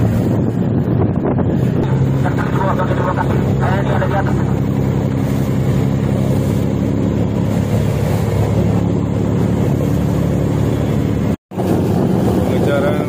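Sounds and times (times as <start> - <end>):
boat engine drone: 0.0 - 13.0
water rushing along hull: 0.0 - 13.0.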